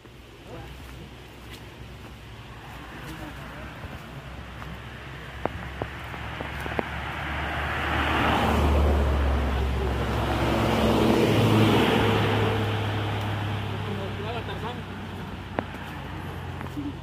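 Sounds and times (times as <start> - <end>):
vehicles passing on road: 0.0 - 17.0.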